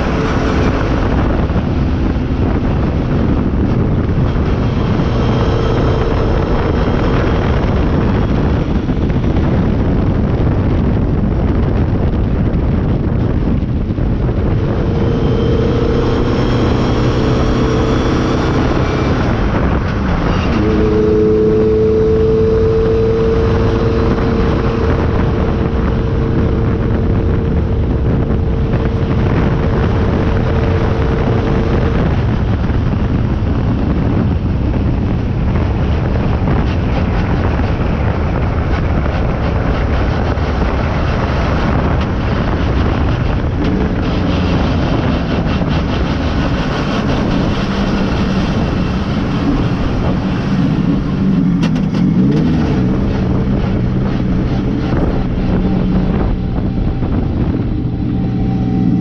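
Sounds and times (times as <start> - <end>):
car engine steady note: 0.0 - 59.0
wind buffeting microphone: 0.0 - 59.0.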